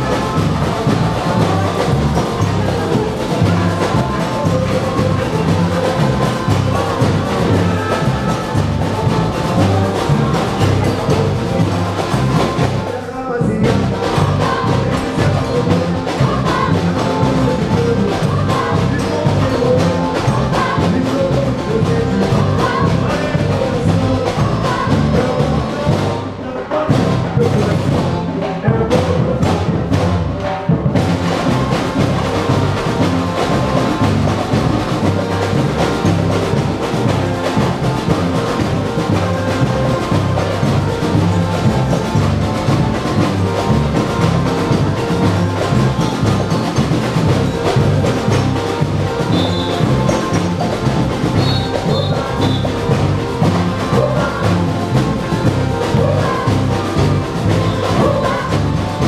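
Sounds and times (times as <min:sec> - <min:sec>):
bass drums beating: 0:00.0 - 0:59.0
samba percussion band: 0:00.0 - 0:59.0
singing: 0:00.0 - 0:59.0.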